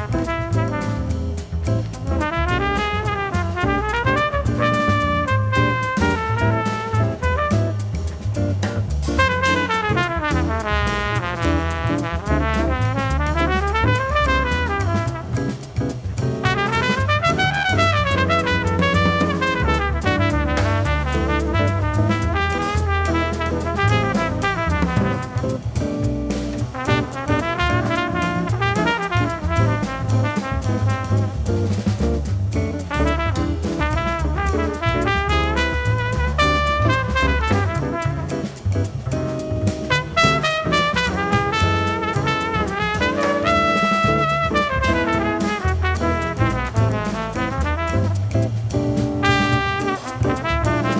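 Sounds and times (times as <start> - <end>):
horn solo: 0.0 - 8.3, 9.1 - 31.7, 32.5 - 38.8, 39.8 - 50.9
drum kit: 0.0 - 50.9
electric bass: 0.0 - 50.9.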